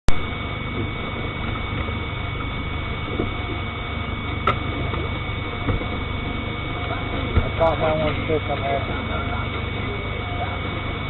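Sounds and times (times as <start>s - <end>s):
boat motor running: 0.1s - 11.0s
faint high whine: 0.1s - 11.0s.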